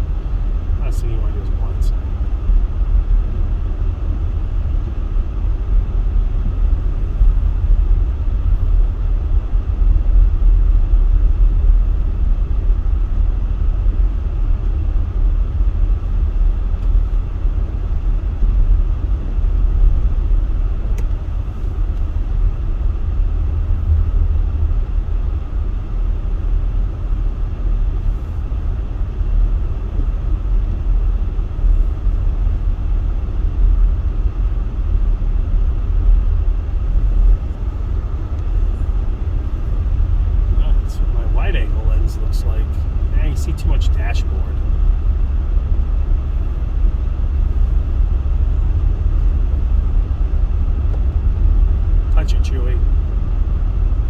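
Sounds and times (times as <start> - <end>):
engine and tyres rumbling: 0.0 - 54.0.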